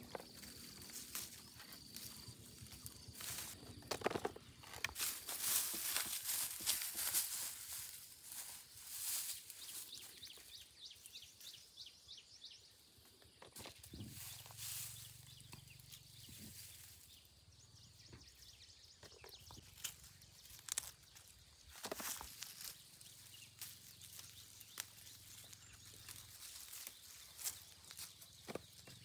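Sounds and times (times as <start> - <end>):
rustles: 0.0 - 11.5, 13.5 - 17.3, 19.0 - 29.0
bird chirping: 0.0 - 29.0.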